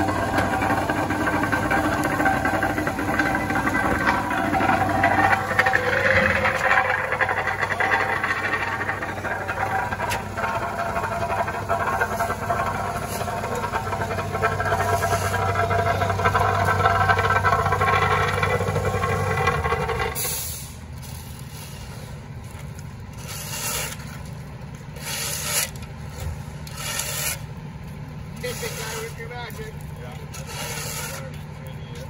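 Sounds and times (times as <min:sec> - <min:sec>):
engine running: 0:00.0 - 0:32.0
rake scraping asphalt on concrete: 0:00.0 - 0:32.0.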